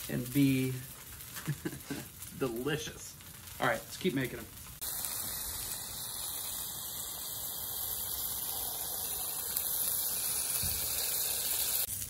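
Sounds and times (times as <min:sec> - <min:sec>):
tacos sizzling in hot fat: 0:00.0 - 0:12.0.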